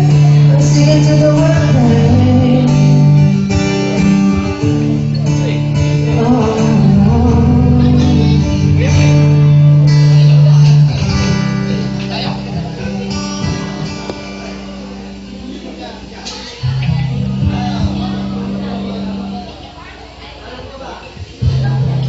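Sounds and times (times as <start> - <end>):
acoustic guitar strumming: 0.0 - 20.2, 21.2 - 22.0.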